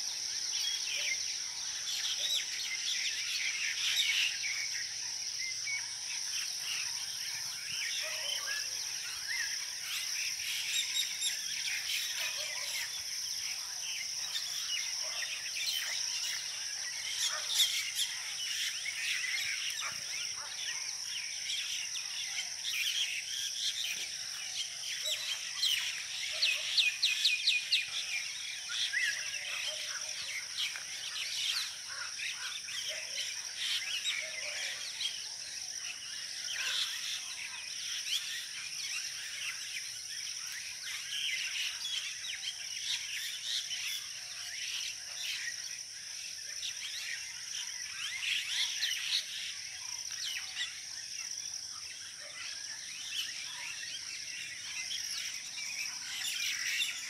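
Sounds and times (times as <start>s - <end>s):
birds chirping in chorus: 0.0s - 57.0s.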